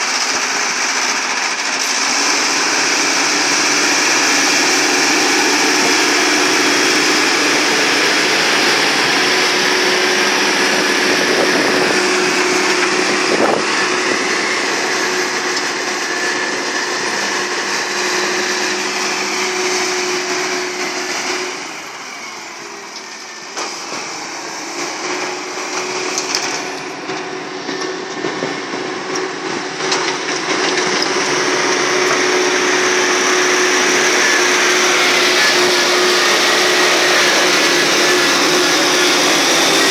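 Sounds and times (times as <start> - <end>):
excavator engine whining: 0.0 - 39.9.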